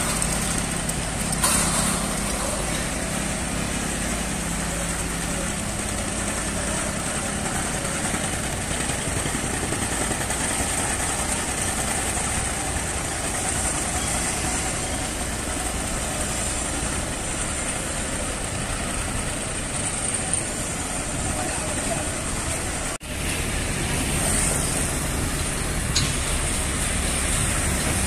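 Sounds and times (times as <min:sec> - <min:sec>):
heavy machinery diesel engines rumbling: 0:00.0 - 0:28.0.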